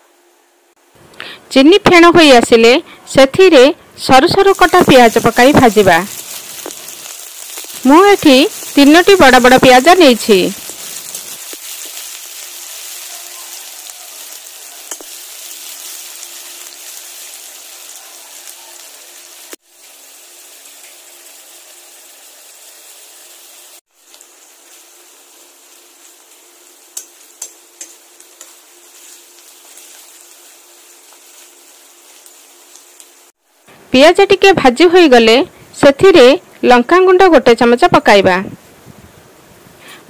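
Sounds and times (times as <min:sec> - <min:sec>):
onions sizzling in hot oil: 0:04.0 - 0:38.2.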